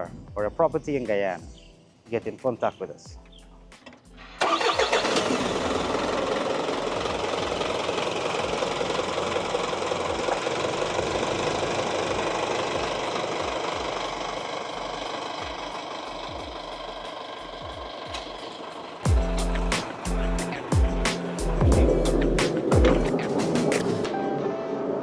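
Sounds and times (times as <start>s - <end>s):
truck engine starting and running: 3.2s - 25.0s.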